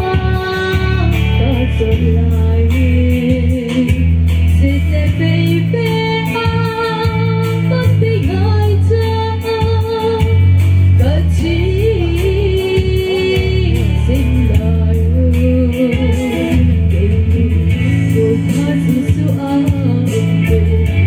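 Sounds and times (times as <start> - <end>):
live band with guitar and bass: 0.0 - 21.0
woman singing into microphone: 0.0 - 21.0.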